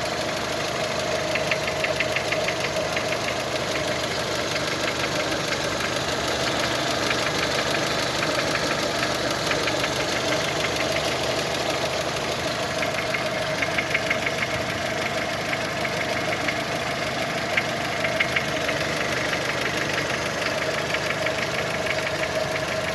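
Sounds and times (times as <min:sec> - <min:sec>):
engine idling: 0:00.0 - 0:22.9
rapid engine knocking: 0:00.0 - 0:22.9.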